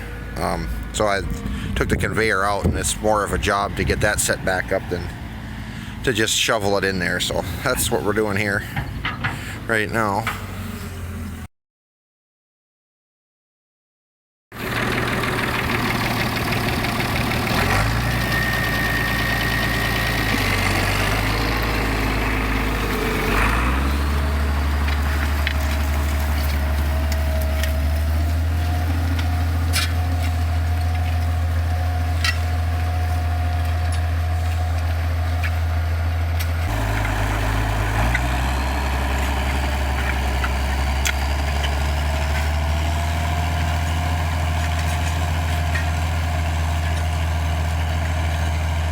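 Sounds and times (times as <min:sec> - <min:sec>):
large engine running: 0:00.0 - 0:11.5, 0:14.6 - 0:48.9.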